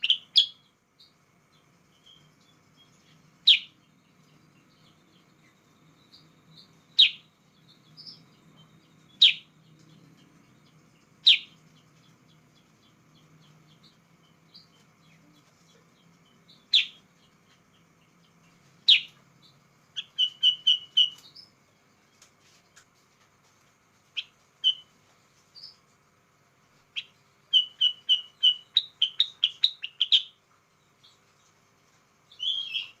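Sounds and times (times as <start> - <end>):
bird rapid note runs: 0.0 - 22.0, 24.2 - 33.0
bird chirping: 0.0 - 22.9, 24.2 - 26.0, 26.8 - 33.0.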